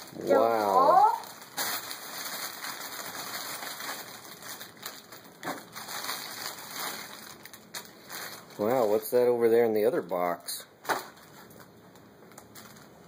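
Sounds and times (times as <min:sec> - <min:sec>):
cellophane crinkling: 0:00.0 - 0:09.4, 0:10.8 - 0:13.0.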